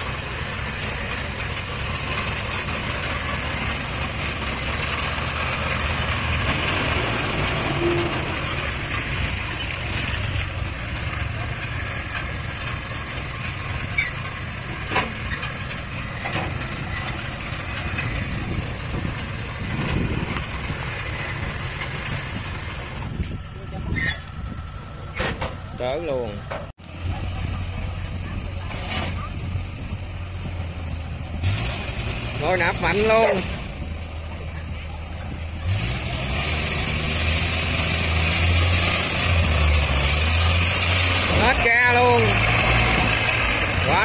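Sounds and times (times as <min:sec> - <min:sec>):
tracked vehicle engine running: 0:00.0 - 0:44.0.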